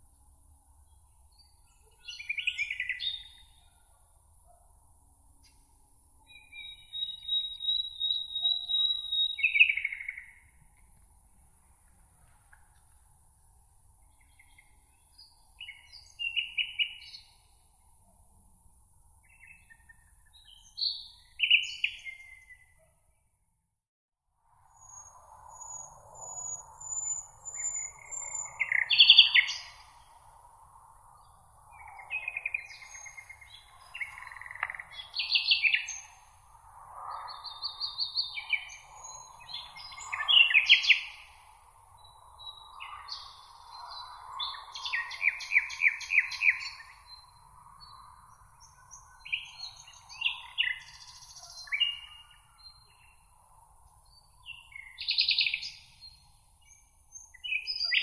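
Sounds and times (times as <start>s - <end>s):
songbirds singing: 0.8s - 11.0s, 13.9s - 17.8s, 19.1s - 23.2s, 24.8s - 58.0s.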